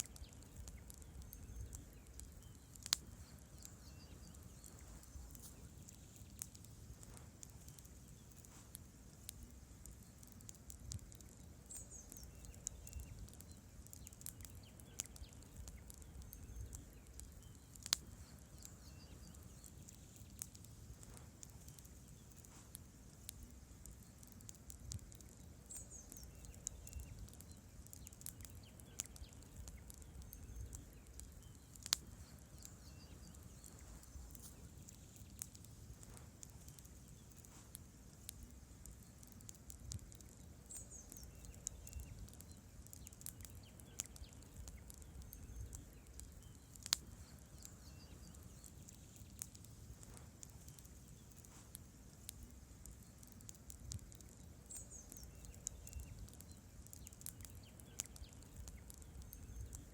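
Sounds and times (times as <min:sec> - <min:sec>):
campfire logs crackling: 0:00.0 - 0:59.9
low rumble of flames: 0:00.0 - 0:59.9
sharp pops of burning logs: 0:00.0 - 0:59.9.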